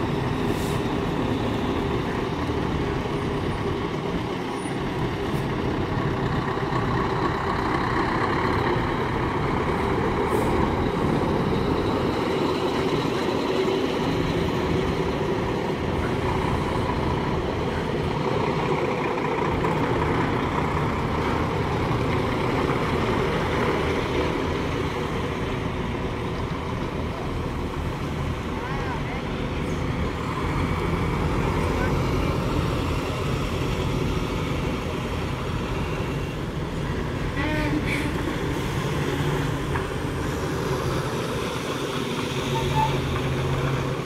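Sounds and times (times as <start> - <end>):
lorry diesel engines: 0.0 - 44.0.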